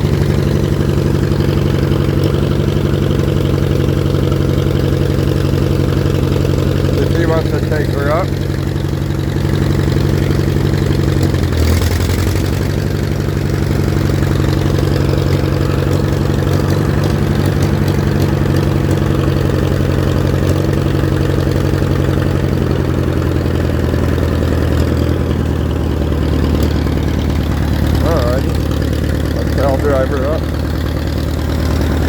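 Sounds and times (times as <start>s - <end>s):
tractor engine idling: 0.0s - 32.0s.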